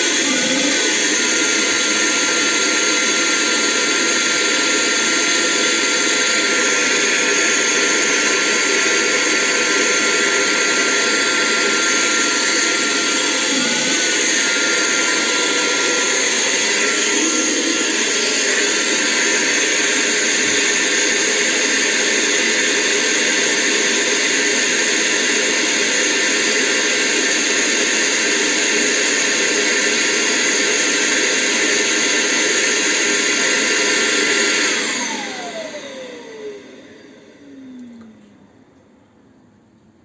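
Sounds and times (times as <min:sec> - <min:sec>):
handheld vacuum cleaner running: 0:00.0 - 0:38.8.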